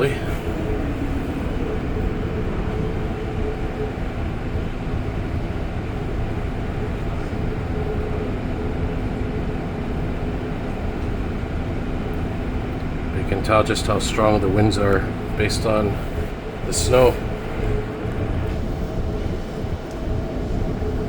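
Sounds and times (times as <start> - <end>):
faint steady hum: 0.0 - 21.0
train rumble from inside car: 0.0 - 21.0.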